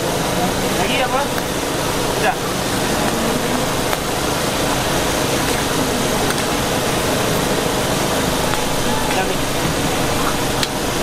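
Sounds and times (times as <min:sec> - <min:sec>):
steady rushing background noise: 0:00.0 - 0:11.0.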